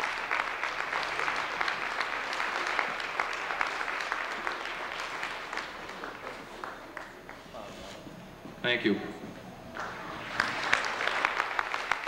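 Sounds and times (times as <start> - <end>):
audience applauding: 0.0 - 7.7, 9.7 - 12.0.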